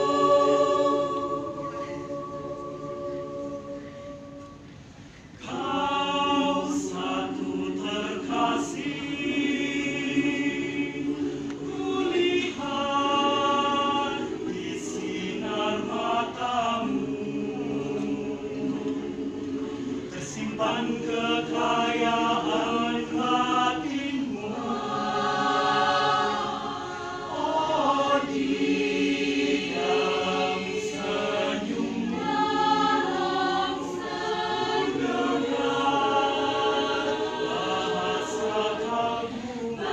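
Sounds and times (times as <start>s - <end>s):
mixed choir singing a cappella: 0.0s - 39.9s.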